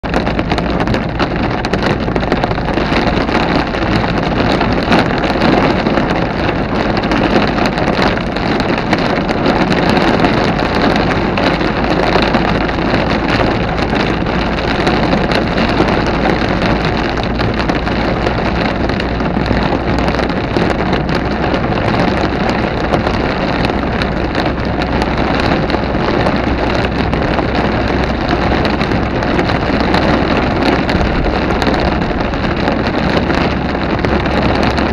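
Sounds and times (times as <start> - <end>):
rain: 0.0 - 34.9
wind buffeting microphone: 0.0 - 34.9.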